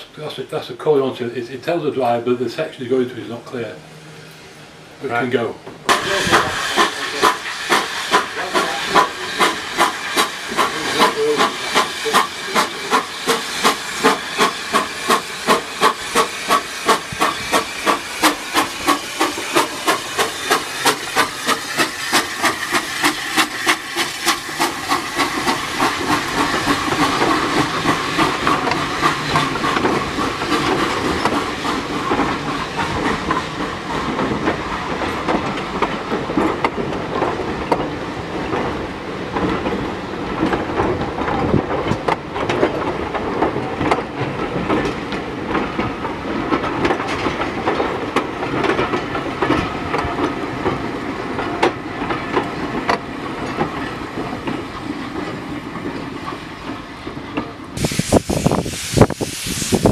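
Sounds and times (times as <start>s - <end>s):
steam locomotive chuffing: 5.8s - 59.9s.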